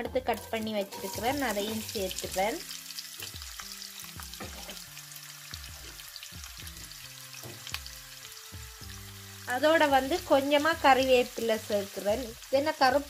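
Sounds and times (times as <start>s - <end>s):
onion sizzling in oil: 0.0s - 13.0s
soft background music: 0.0s - 13.0s.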